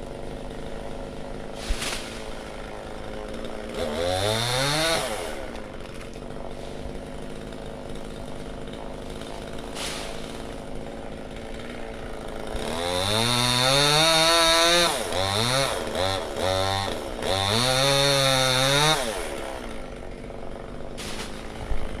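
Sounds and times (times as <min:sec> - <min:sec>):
chainsaw idling and revving: 0:00.0 - 0:22.0.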